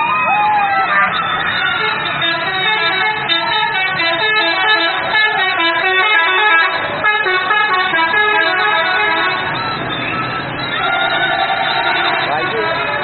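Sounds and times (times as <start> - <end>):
multi-tone air horn tune: 1.0 - 9.6, 10.8 - 13.0.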